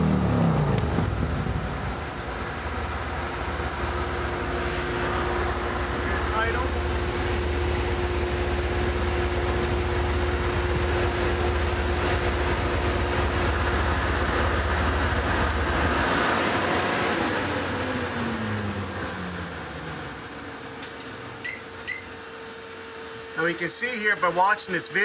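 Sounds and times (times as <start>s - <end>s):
motorcycle engine under load: 0.0s - 22.2s
dyno roller whine: 0.0s - 25.0s.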